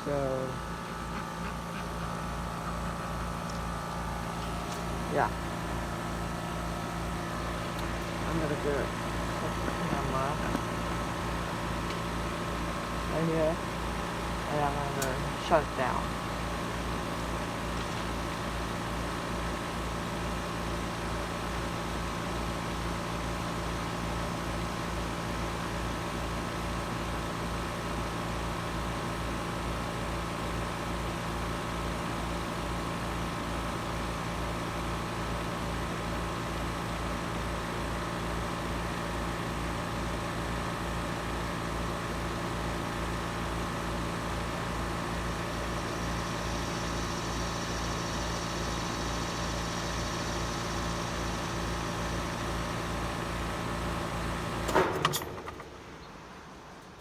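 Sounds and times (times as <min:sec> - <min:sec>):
heat pump humming: 0:00.0 - 0:57.0.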